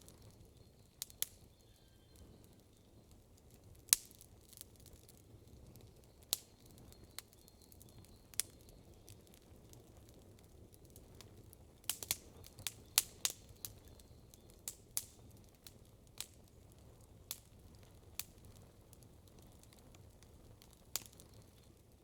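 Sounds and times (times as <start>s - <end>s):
campfire pops and snaps: 3.4s - 21.7s.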